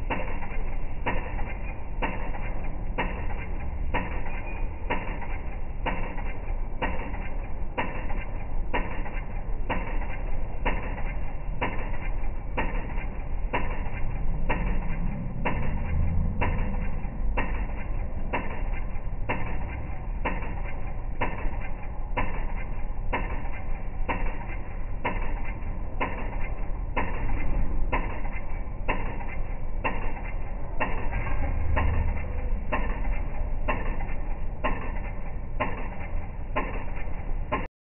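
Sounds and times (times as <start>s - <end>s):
city traffic rumble: 0.0s - 37.6s.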